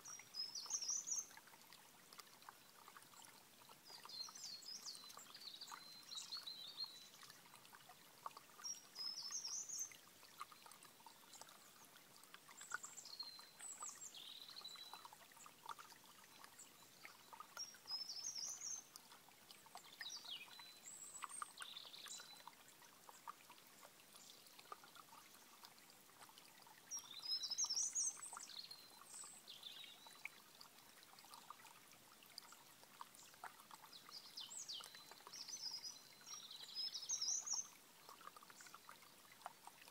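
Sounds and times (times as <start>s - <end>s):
small birds chirping: 0.0s - 1.5s, 2.5s - 7.8s, 8.4s - 23.4s, 26.7s - 30.4s, 32.4s - 39.2s
stream trickling over stones: 0.0s - 39.9s.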